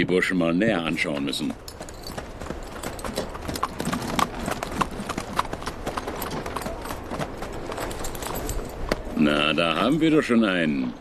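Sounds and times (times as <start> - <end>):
horse hooves clip-clopping: 0.7 - 10.3.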